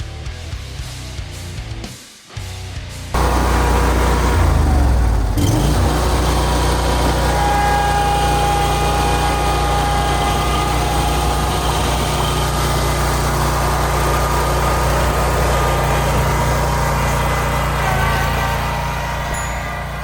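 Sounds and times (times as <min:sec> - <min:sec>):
lawn mower engine running: 0:03.2 - 0:20.0.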